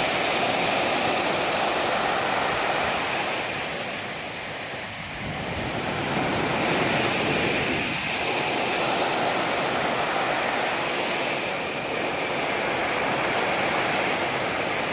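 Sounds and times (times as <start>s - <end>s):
breaking waves: 0.0s - 14.9s.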